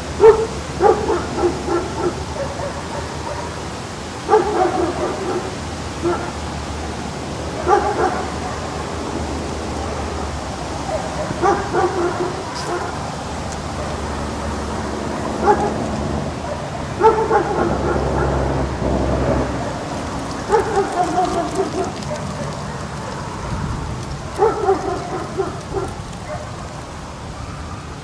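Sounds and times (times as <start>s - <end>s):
rumbling background noise: 0.0s - 28.0s
dog barking: 0.2s - 6.6s, 7.5s - 8.9s, 10.8s - 18.7s, 19.4s - 23.7s, 24.3s - 27.9s.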